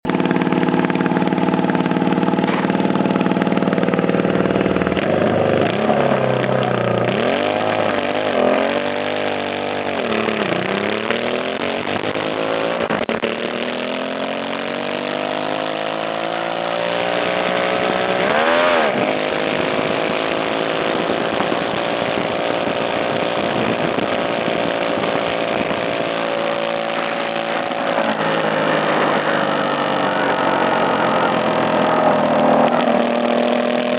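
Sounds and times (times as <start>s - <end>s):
lawn mower engine revving: 0.0s - 33.9s.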